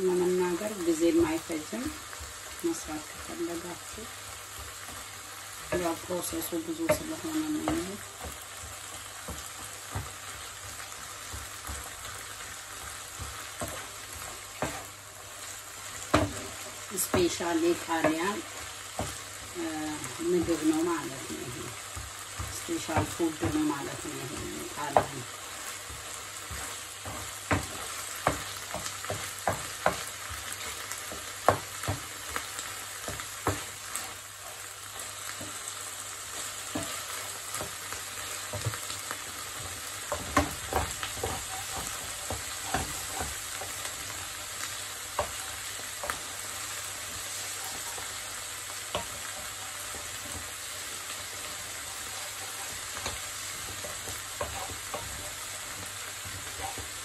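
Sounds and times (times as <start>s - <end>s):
rice sizzling in oil: 0.0s - 57.0s.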